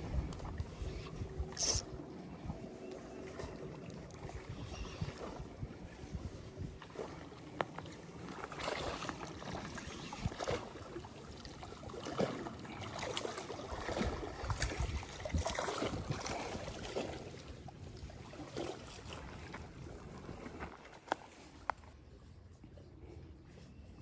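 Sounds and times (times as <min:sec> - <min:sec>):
lake water splashing and lapping: 0:00.0 - 0:23.3.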